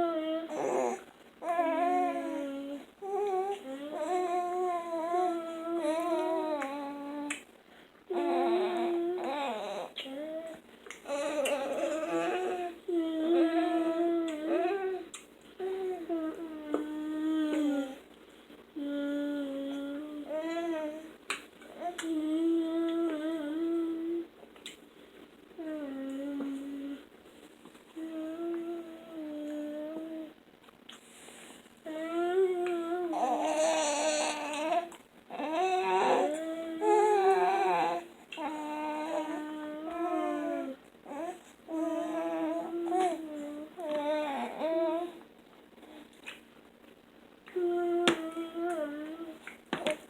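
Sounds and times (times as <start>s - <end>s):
boys humming: 0.0s - 7.4s, 8.1s - 18.0s, 18.8s - 21.0s, 22.0s - 24.3s, 25.6s - 27.1s, 28.0s - 30.4s, 31.9s - 45.2s, 47.5s - 49.4s.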